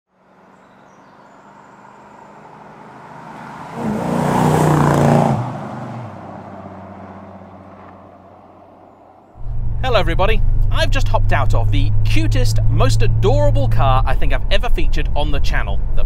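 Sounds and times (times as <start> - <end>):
car engine driving past: 0.1 - 15.1.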